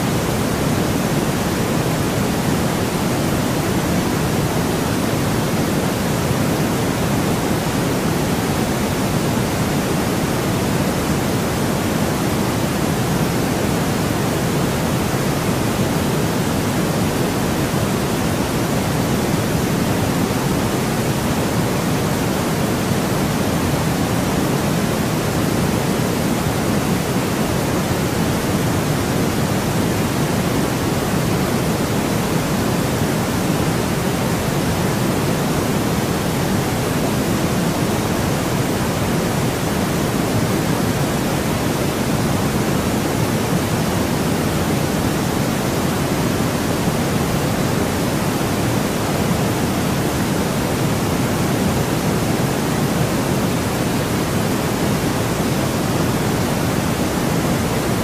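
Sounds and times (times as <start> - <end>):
soft pink noise hush: 0.0 - 58.0.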